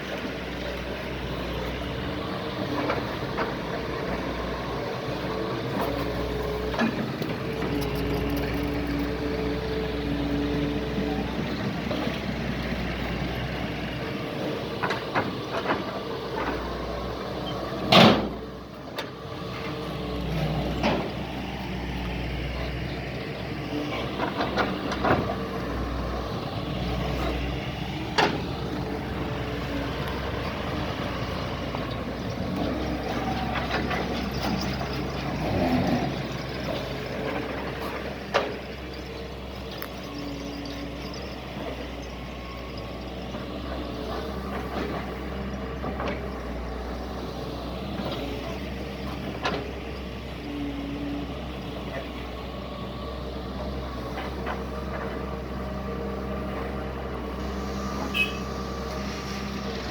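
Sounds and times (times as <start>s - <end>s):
hydraulic excavator running: 0.0s - 59.9s.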